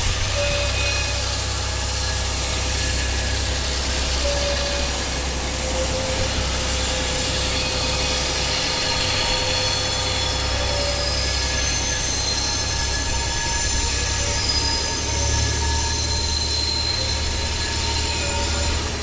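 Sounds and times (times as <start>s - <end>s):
locomotive engine drone: 0.0s - 19.0s
train rumble: 0.0s - 19.0s
wheels squealing: 0.0s - 19.0s.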